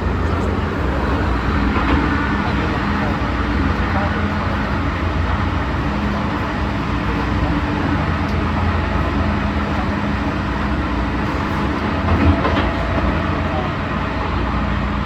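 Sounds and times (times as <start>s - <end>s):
constant hum: 0.0s - 15.0s
train rumble: 0.0s - 15.0s.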